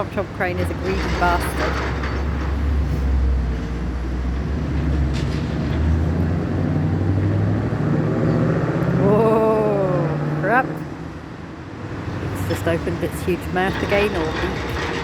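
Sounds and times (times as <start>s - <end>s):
excavator diesel engine rumbling: 0.0s - 15.0s.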